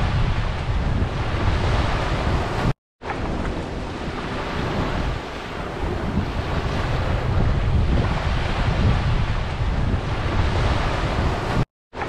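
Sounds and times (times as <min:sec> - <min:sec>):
small waves washing on sand: 0:00.0 - 0:12.0
wind rumbling on microphone: 0:00.0 - 0:12.0.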